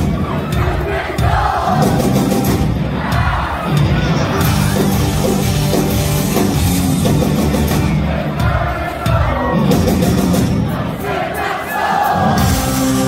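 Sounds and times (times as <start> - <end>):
crowd cheering and singing along: 0.0 - 13.0
rock band playing live: 0.0 - 13.0.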